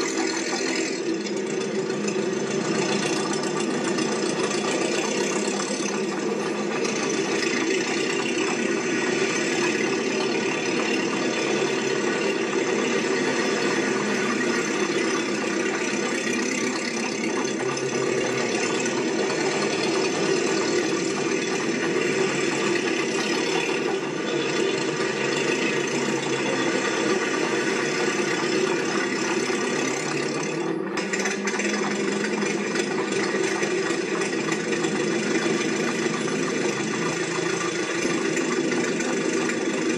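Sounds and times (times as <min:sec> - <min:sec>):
machine rattling and humming: 0:00.0 - 0:39.9.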